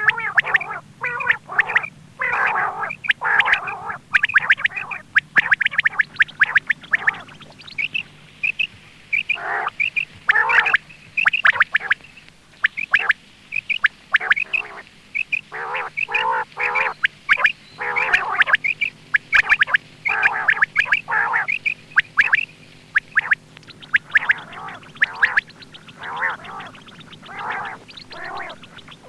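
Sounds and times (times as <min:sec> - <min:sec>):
quail calling: 0:00.0 - 0:29.0.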